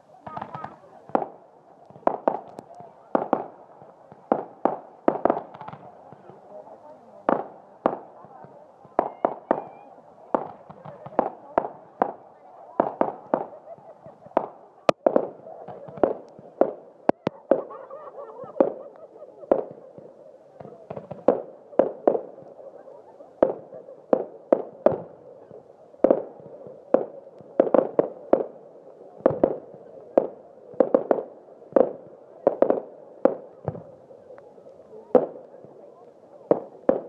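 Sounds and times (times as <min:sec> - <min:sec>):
fireworks bursting with sharp bangs: 0:00.0 - 0:37.0.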